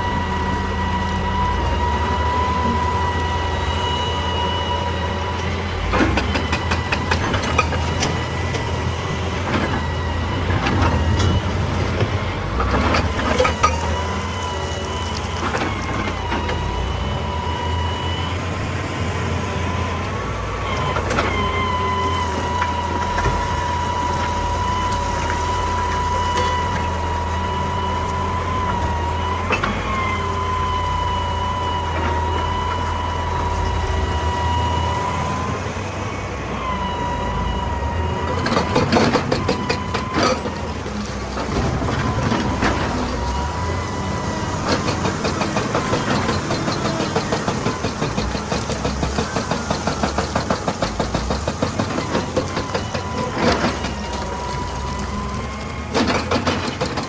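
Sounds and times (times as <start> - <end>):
excavator diesel engine running: 0.0 - 57.0
high hydraulic whine: 0.0 - 57.0.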